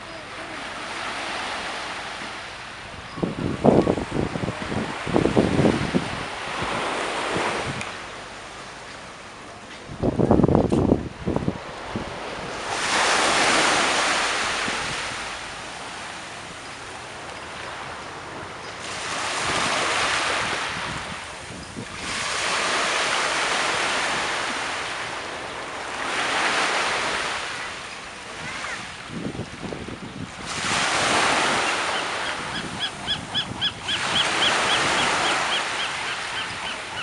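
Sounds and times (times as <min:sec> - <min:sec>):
surf washing in: 0:00.0 - 0:37.0.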